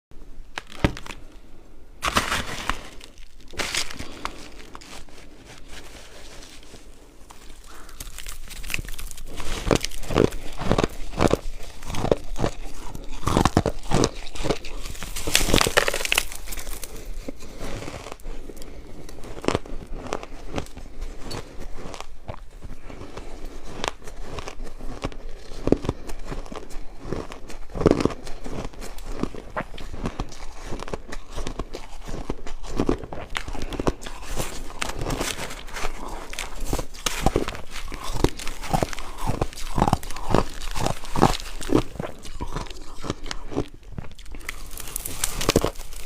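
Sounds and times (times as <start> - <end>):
ice crunching being chewed: 2.0 - 46.0.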